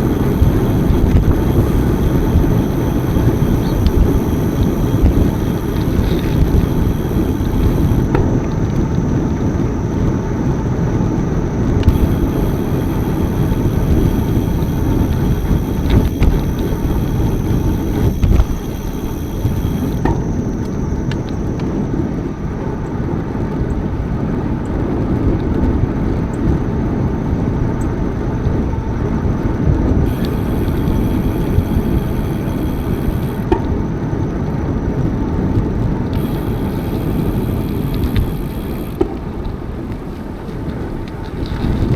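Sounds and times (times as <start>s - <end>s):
wind buffeting microphone: 0.0s - 22.4s, 23.0s - 41.9s.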